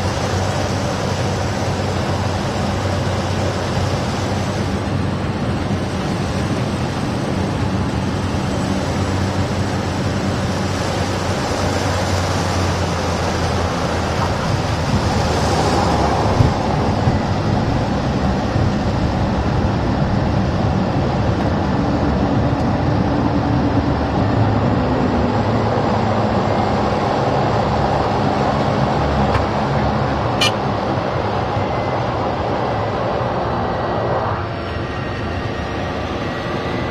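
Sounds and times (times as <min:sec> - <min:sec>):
turboprop engine drone: 0:00.0 - 0:36.9.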